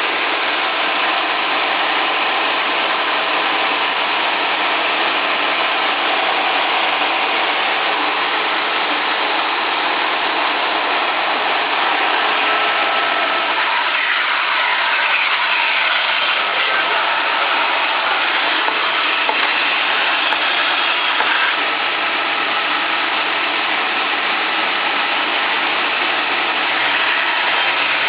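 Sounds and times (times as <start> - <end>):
band saw running: 0.0 - 28.0.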